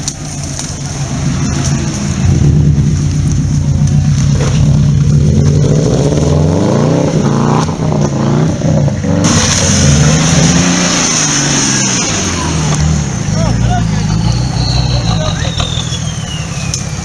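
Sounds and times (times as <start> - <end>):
suv engines revving: 0.0 - 17.0.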